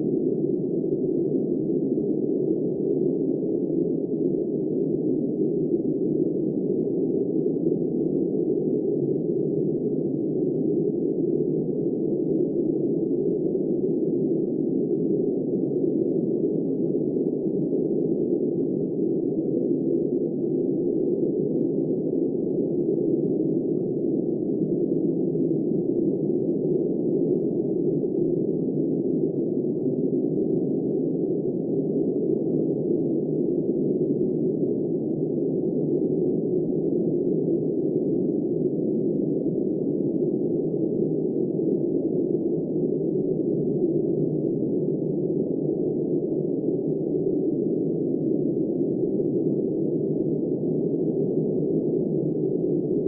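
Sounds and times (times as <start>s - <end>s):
muffled blizzard wind: 0.0s - 53.0s.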